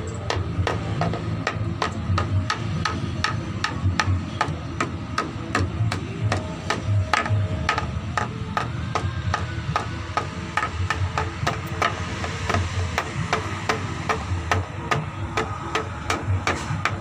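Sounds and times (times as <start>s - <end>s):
bamboo struck by hand: 0.3s - 17.0s.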